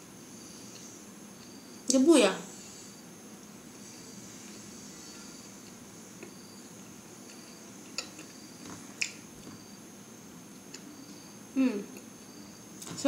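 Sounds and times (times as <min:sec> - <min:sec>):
faint high-pitched hum: 0:00.0 - 0:13.0.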